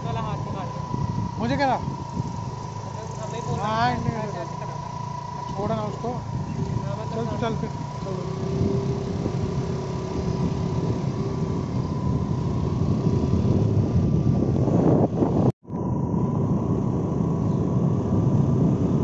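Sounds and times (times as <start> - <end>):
faint steady whine: 0.0 - 19.0
vehicle engine and road rumble: 0.0 - 19.0.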